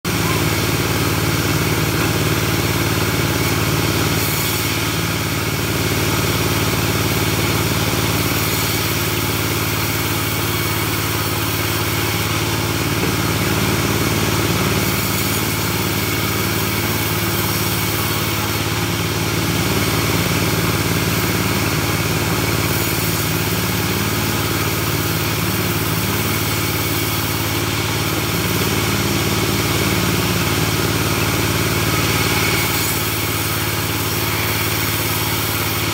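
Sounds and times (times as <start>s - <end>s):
sawmill engine droning: 0.0s - 35.9s.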